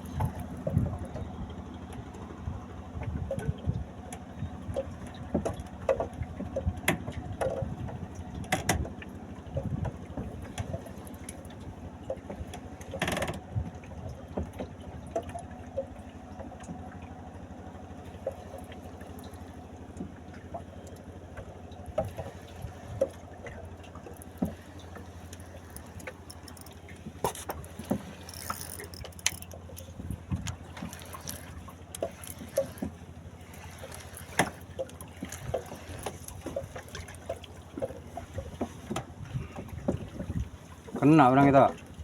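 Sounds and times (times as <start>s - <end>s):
boat engine running: 0.0s - 42.0s
knocks and clicks on boat: 0.0s - 42.0s.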